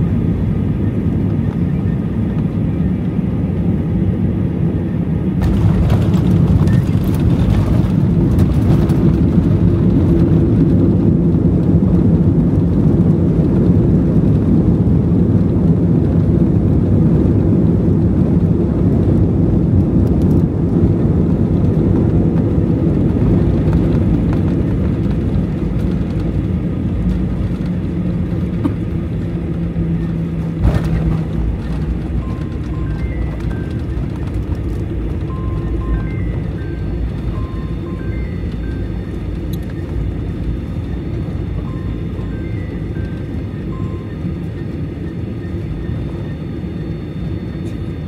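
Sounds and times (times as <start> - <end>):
airplane cabin engine rumble: 0.0 - 48.0.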